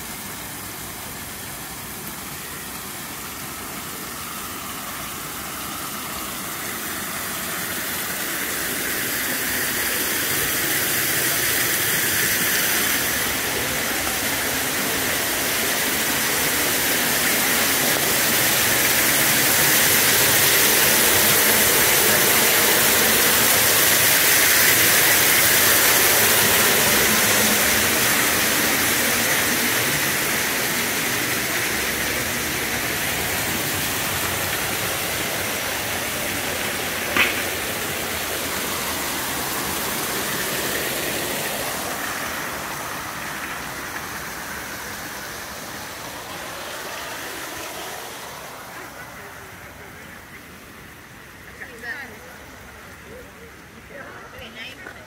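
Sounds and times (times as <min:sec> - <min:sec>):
water splashing and rushing: 0:00.0 - 0:55.0.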